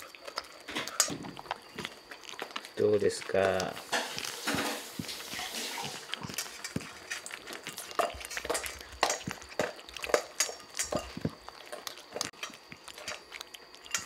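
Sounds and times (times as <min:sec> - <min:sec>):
kitten crunching dry food: 0:00.0 - 0:14.0
kibble clicking against bowl: 0:00.1 - 0:04.4, 0:05.8 - 0:14.0.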